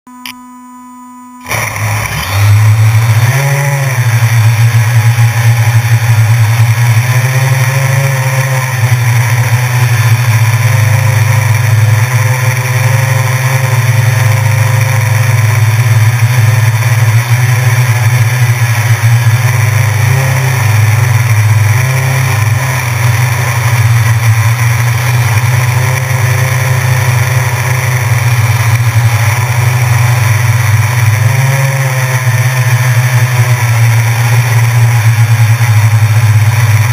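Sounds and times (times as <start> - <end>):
drone propellers buzzing: 1.4 - 36.9.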